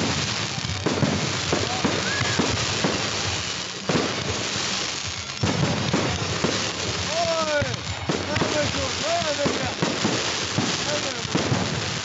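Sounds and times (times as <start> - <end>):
firework shells bursting: 0.0 - 12.0
fireworks crackling: 0.0 - 12.0.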